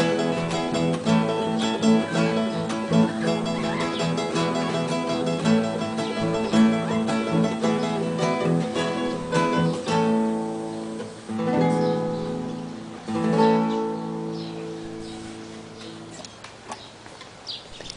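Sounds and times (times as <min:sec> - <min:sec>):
ringing guitar chords: 0:00.0 - 0:15.0
acoustic guitar plucked runs: 0:00.0 - 0:16.2.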